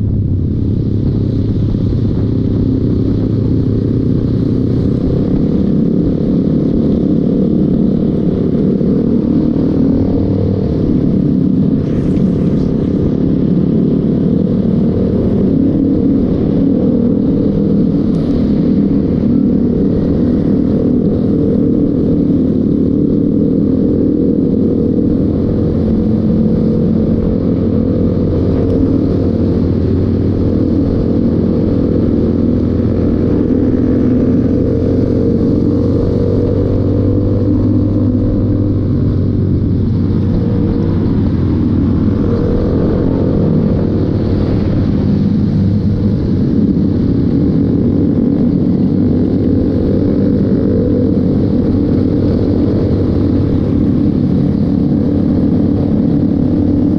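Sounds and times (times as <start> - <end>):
motorcycle engine rumbling: 0.0 - 56.9
road noise: 0.0 - 56.9.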